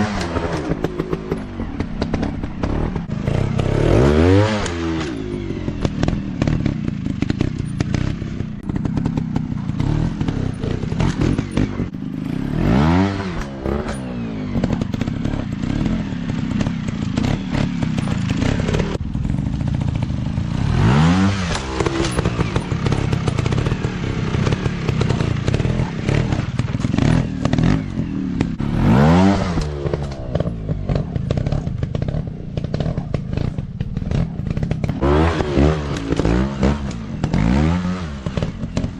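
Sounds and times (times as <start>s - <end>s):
dirt bike engines running: 0.0s - 38.9s
dirt bike revving hard: 0.0s - 38.9s.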